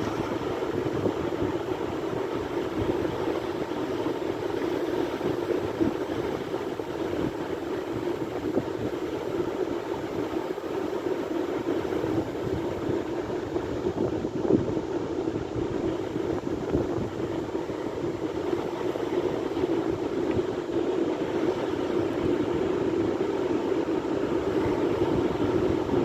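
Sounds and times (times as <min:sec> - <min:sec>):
sea surf washing: 0:00.0 - 0:26.0.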